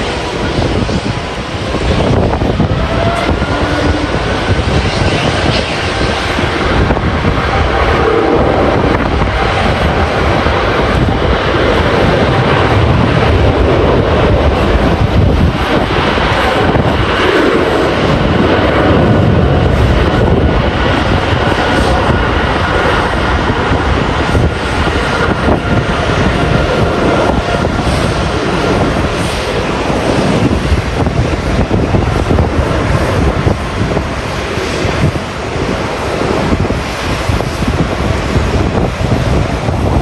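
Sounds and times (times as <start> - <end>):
jet engine roar: 0.0 - 40.0
wind buffeting microphone: 0.0 - 40.0.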